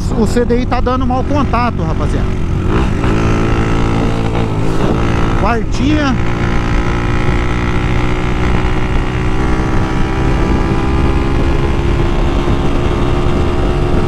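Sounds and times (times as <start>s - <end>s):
motorcycle engine at speed: 0.0s - 14.0s
wind rush on microphone: 2.2s - 14.0s.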